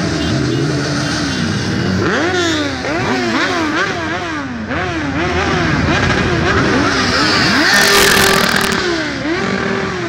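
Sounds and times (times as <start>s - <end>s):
motorcycle engines revving: 0.0s - 10.0s.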